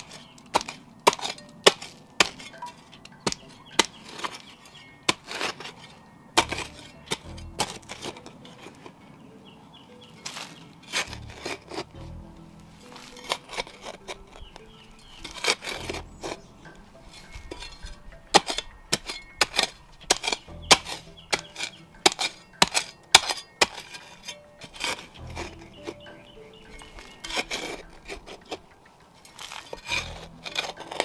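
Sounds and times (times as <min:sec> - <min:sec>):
shovel chopping into rocky soil: 0:00.0 - 0:08.9, 0:10.2 - 0:12.2, 0:12.8 - 0:28.6, 0:29.3 - 0:31.0.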